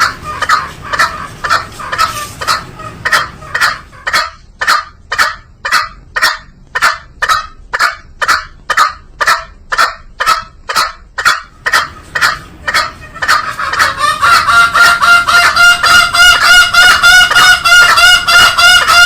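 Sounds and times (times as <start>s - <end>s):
junglefowl short sharp calls: 0.0s - 19.0s.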